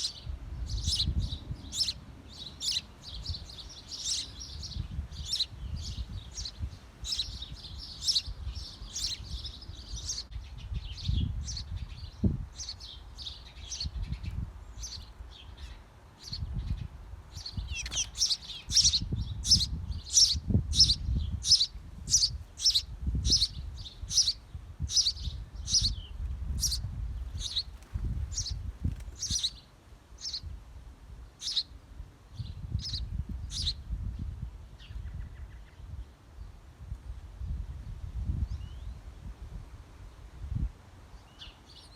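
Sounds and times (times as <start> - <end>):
small birds chirping: 0.0 - 30.5, 31.2 - 34.2, 41.1 - 41.9.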